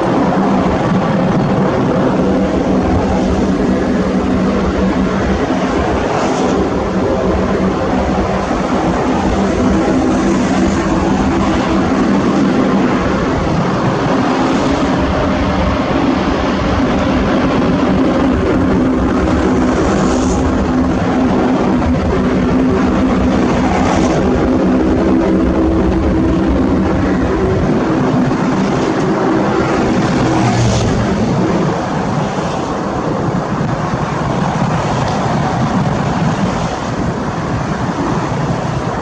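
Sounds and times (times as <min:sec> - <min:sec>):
turboprop engines running: 0:00.0 - 0:39.0.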